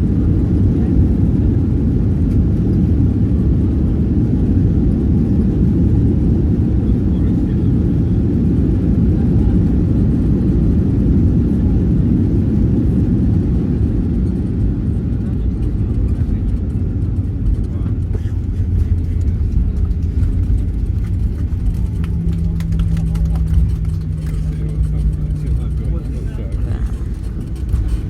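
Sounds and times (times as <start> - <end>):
jet airliner rumble: 0.0 - 28.0.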